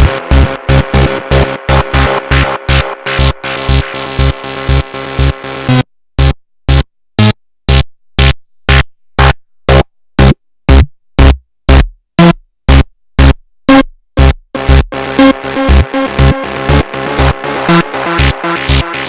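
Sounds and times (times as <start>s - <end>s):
synthesizer percussive hits: 0.0s - 19.0s.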